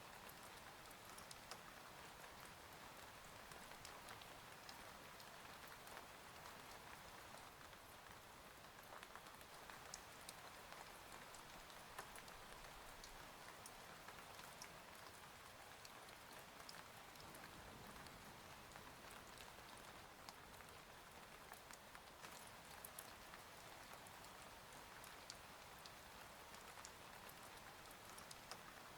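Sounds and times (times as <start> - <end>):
faint steady rain: 0.0 - 28.9.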